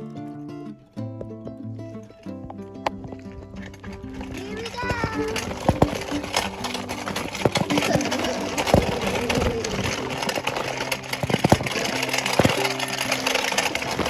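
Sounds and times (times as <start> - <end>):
footsteps on gravel: 2.2 - 14.0.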